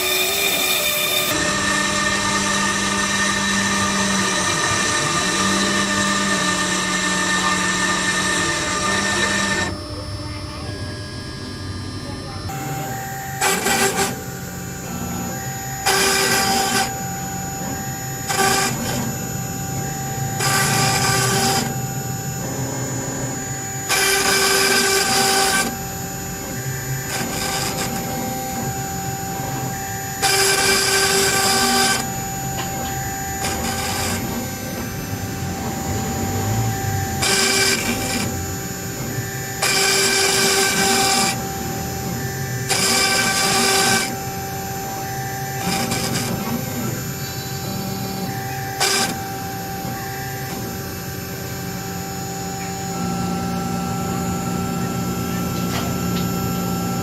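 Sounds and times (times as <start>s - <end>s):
engraving machine whine: 0.0s - 57.0s.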